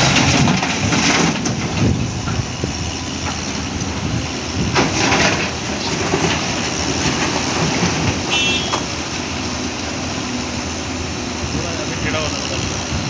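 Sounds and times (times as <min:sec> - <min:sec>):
excavator diesel engine under load: 0:00.0 - 0:13.0.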